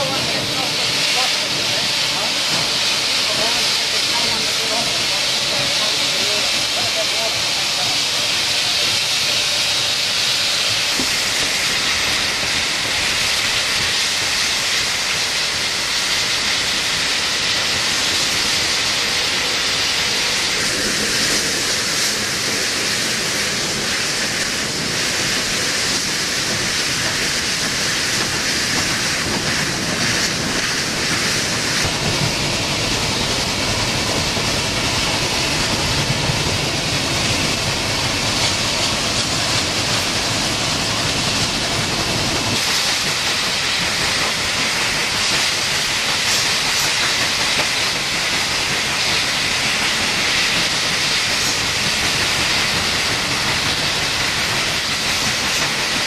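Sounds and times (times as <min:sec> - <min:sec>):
steam hissing: 0:00.0 - 0:56.0
steam locomotive running: 0:00.0 - 0:56.0.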